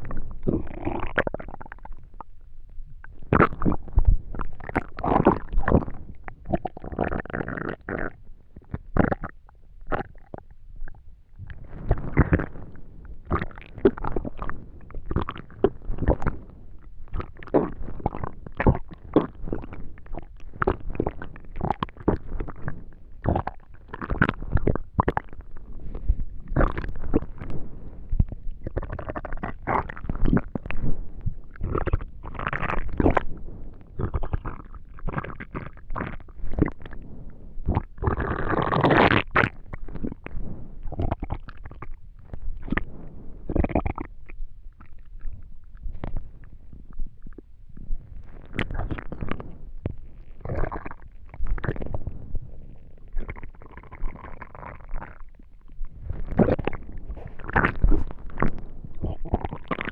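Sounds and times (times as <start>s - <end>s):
stomach gurgling: 0.0s - 59.9s
stomach rumbles: 0.0s - 59.9s.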